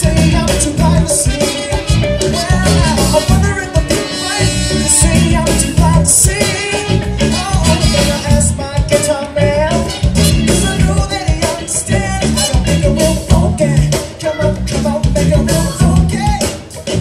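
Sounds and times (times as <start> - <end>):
person singing: 0.0 - 16.9
drum kit: 0.0 - 17.0
electric guitar: 0.0 - 17.0
keyboards: 0.0 - 17.0.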